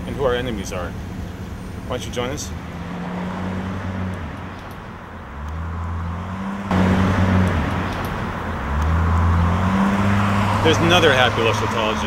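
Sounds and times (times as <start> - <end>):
car engines humming: 0.0 - 12.0
road noise: 0.0 - 12.0.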